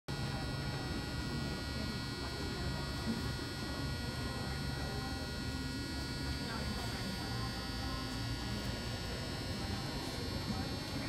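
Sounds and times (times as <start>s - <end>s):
electrical hum and buzz: 0.1s - 11.0s.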